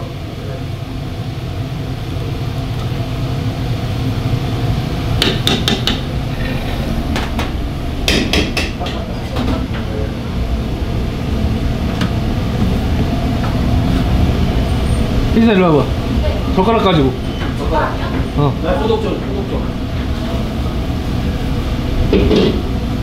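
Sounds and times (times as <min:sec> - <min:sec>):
low kitchen rumble: 0:00.0 - 0:23.0.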